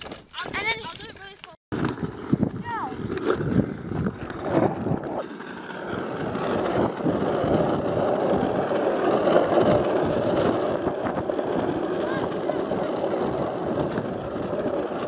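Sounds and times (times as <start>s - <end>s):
plastic wheels rolling on asphalt: 0.0s - 15.0s.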